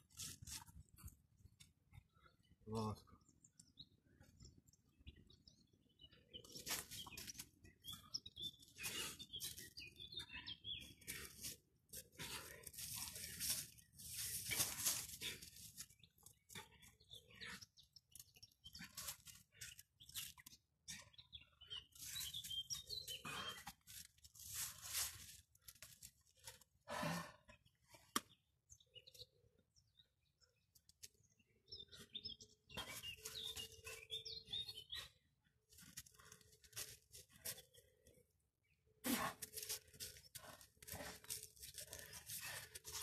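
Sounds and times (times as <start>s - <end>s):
birds chirping: 0.9s - 24.3s, 27.4s - 38.9s.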